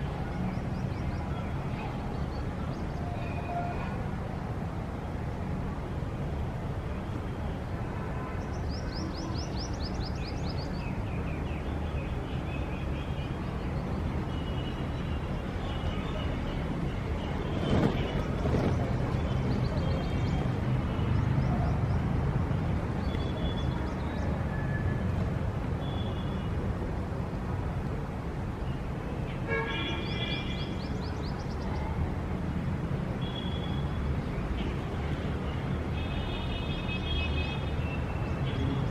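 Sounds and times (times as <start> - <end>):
city traffic rumble: 0.0 - 38.9
rush of passing traffic: 0.0 - 38.9.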